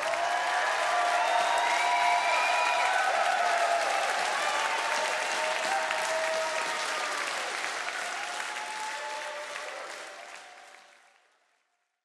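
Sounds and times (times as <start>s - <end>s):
crowd clapping: 0.0s - 12.0s.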